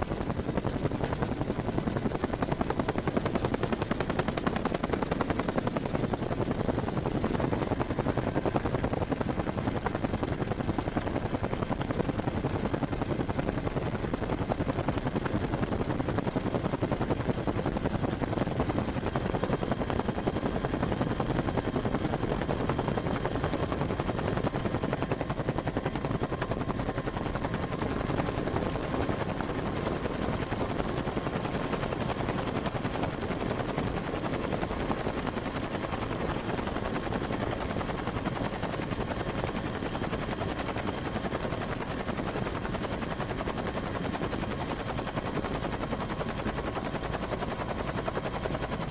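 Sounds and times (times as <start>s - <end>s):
helicopter rotor and engine: 0.0s - 48.9s.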